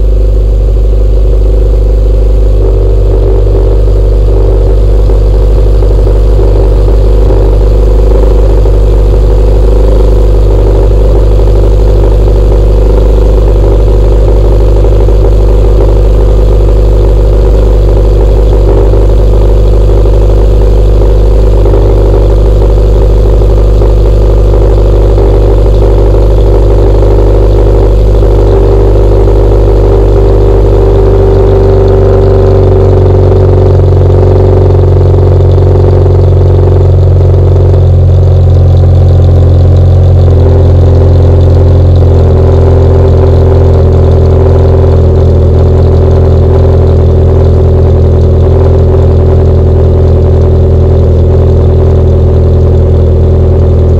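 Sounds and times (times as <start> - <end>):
loud car engine idling: 0.0 - 53.9.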